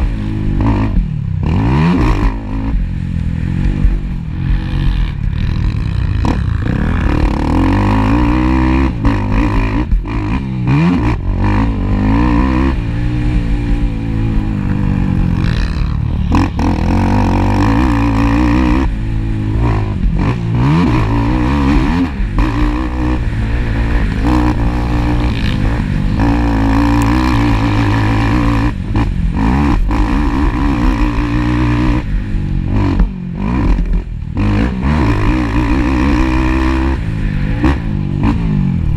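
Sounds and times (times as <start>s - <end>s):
atv engines revving: 0.0s - 38.9s.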